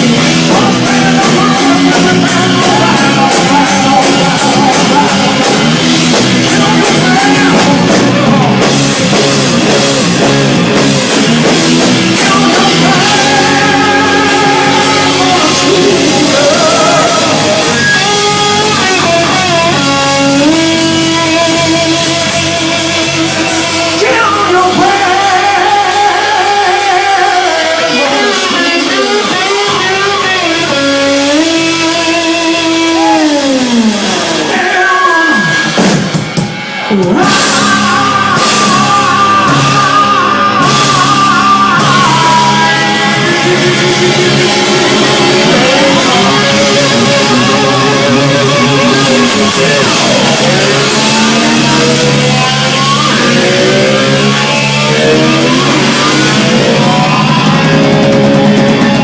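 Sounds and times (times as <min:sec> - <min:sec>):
electric guitar bending notes: 0:00.0 - 0:59.0
live rock band playing: 0:00.0 - 0:59.0.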